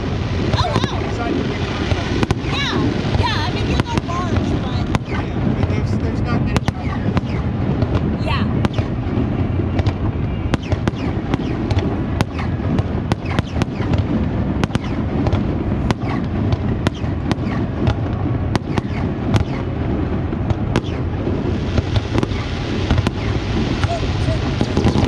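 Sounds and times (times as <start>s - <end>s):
fireworks cracking and popping: 0.0s - 25.0s
low rumble of booms: 0.0s - 25.0s.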